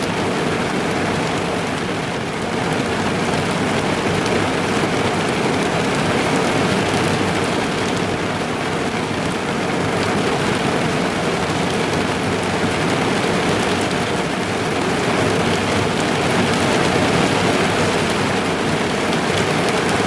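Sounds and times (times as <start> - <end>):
rain drumming on car roof: 0.0 - 20.0.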